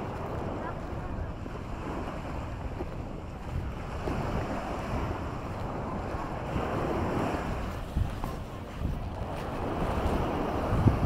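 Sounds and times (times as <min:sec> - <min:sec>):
waves washing on shore: 0:00.0 - 0:11.0
wind buffeting microphone: 0:00.0 - 0:11.0.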